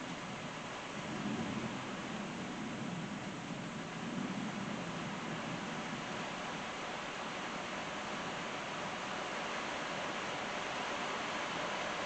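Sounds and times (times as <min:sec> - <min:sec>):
rain falling on driveway: 0:00.0 - 0:12.0.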